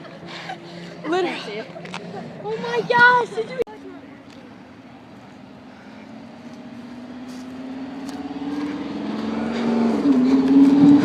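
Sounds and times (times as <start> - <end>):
car engine approaching: 0.0 - 11.0.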